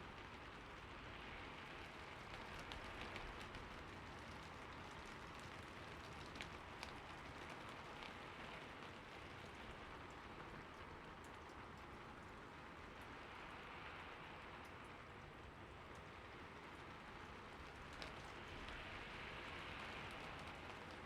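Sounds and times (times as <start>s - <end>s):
soft rain falling: 0.0s - 21.0s
raindrops ticking: 0.1s - 21.0s.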